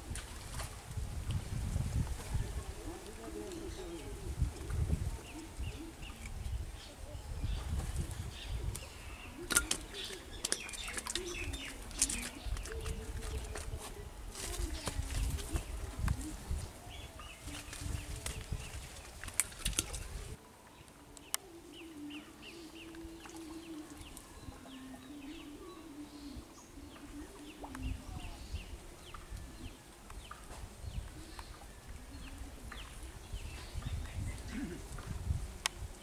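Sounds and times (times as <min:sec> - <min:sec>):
small birds chirping: 0:02.4 - 0:36.0.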